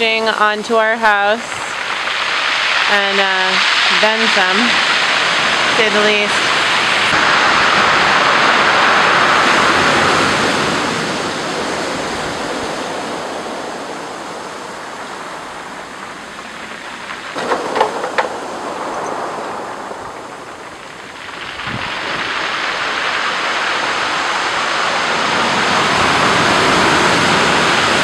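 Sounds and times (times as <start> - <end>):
storm waves crashing: 0.0 - 28.0.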